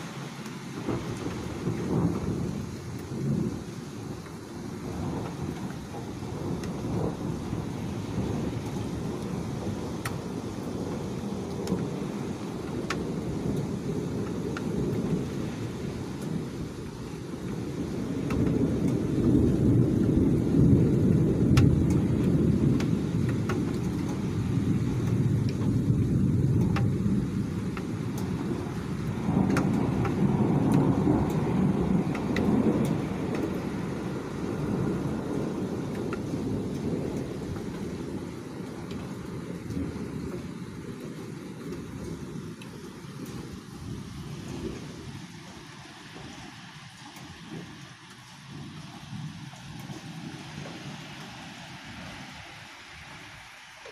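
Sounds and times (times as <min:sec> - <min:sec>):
thunder rumbling: 0:00.0 - 0:52.4
falling rain: 0:00.0 - 0:53.9
sharp ticks of raindrops: 0:00.0 - 0:53.9.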